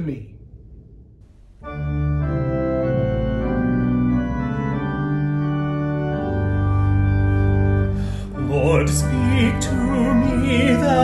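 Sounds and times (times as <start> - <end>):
organ playing sustained chords: 1.3 - 11.0.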